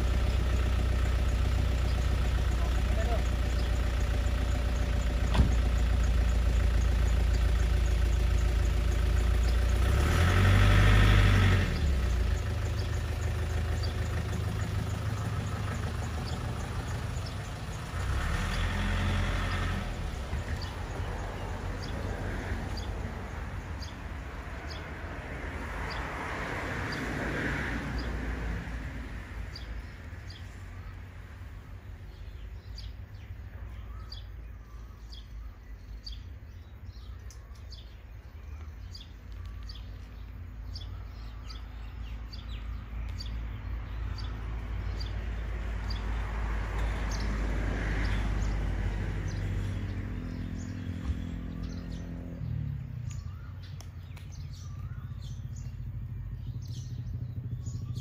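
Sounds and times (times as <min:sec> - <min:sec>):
engine running with low hum: 0:00.0 - 0:58.0.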